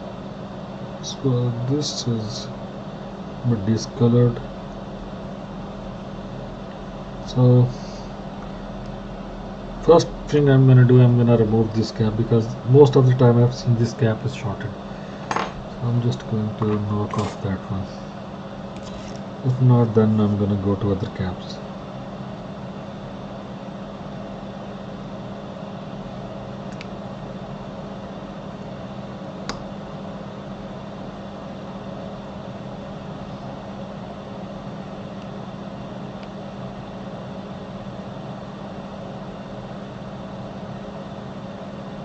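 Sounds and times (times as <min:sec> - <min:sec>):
electric fan whirring: 0:00.0 - 0:42.0.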